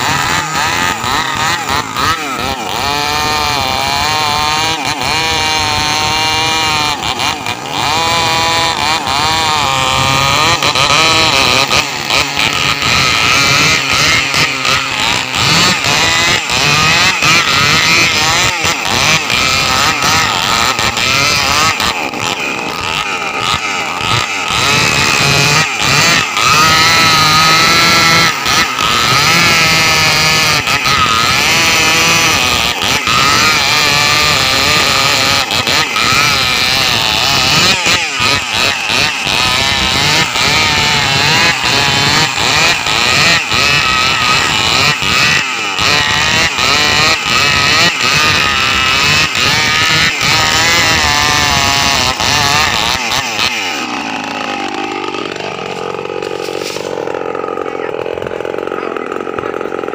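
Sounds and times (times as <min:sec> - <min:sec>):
chainsaws cutting wood: 0:00.0 - 0:59.9.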